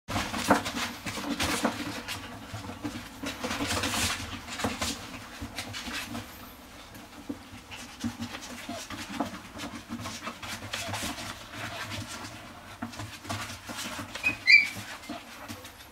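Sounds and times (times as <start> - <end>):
puppy sniffing and snuffling: 0.2 - 15.9.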